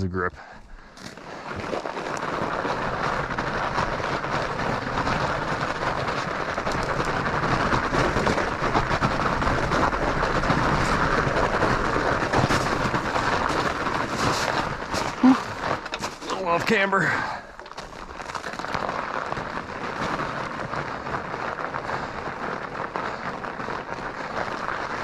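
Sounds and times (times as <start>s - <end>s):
bike tires crunching on snow: 0.0s - 25.0s.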